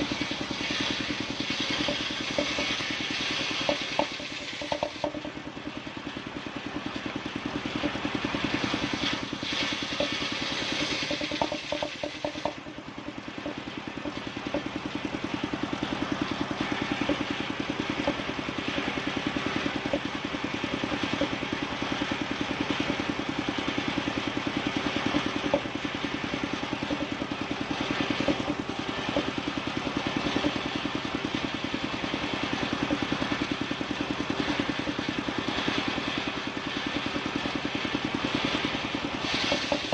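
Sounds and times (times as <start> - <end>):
saw machine engine running: 0.0 - 39.9.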